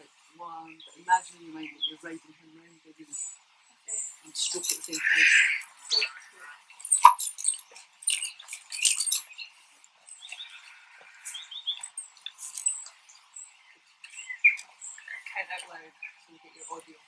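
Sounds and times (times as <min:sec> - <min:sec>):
rustling: 0:00.0 - 0:17.0
small birds chirping: 0:00.0 - 0:17.0.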